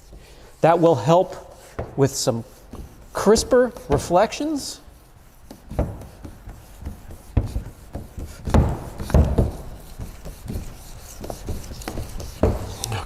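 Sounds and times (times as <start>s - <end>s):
wet sandpaper rubbing paint: 0.0s - 13.0s.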